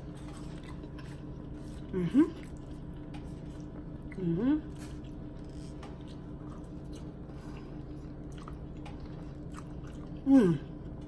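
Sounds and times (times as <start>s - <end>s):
faint steady hum: 0.0s - 11.0s
person chewing food: 0.0s - 11.0s.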